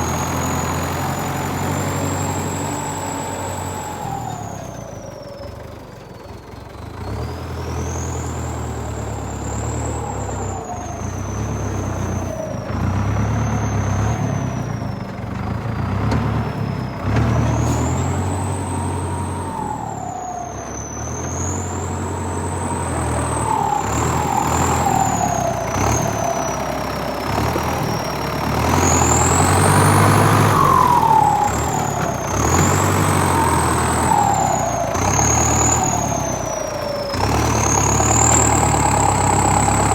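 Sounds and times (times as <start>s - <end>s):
vehicle engine rumble: 0.0s - 39.9s.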